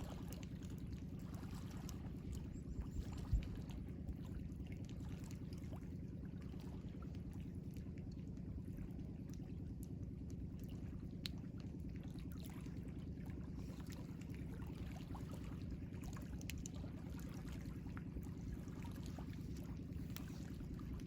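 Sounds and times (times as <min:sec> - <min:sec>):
small splashes and drips: 0:00.0 - 0:21.0.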